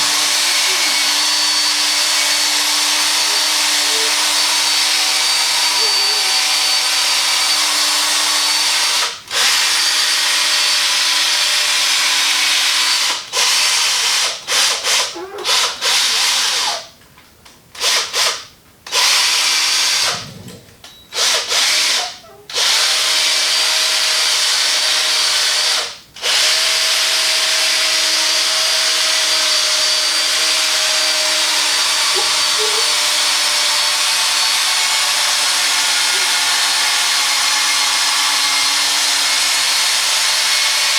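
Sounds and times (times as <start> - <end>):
electric polisher whirring: 0.0 - 13.7, 21.2 - 40.9.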